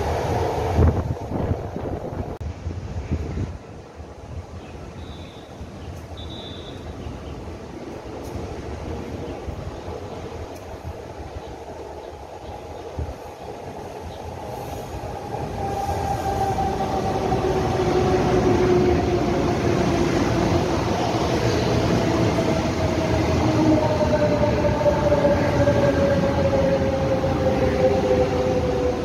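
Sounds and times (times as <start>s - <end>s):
falling train whine: 0.0s - 3.3s, 4.9s - 29.0s
train rumble: 0.0s - 29.0s.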